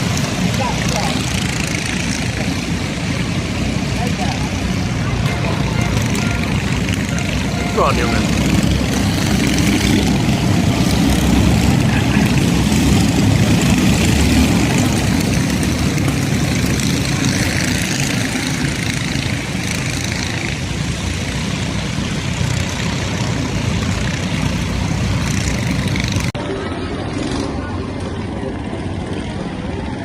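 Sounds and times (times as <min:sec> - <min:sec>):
small kart engines droning: 0:00.0 - 0:30.0.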